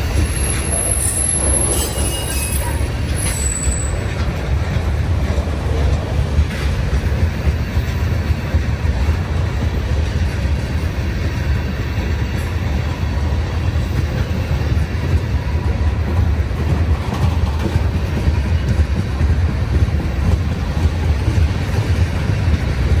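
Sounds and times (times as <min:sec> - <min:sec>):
high-pitched train squeals: 0:00.0 - 0:04.6, 0:06.6 - 0:23.0
freight train rumbling: 0:00.0 - 0:23.0.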